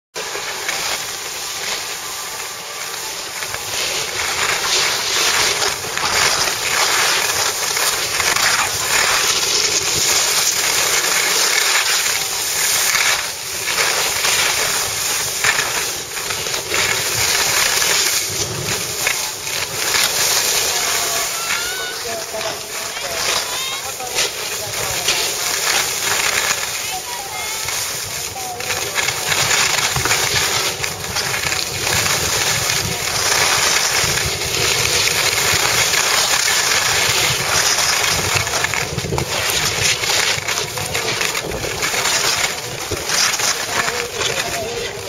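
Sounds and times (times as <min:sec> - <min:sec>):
snowboards scraping over snow: 0:00.2 - 0:45.0.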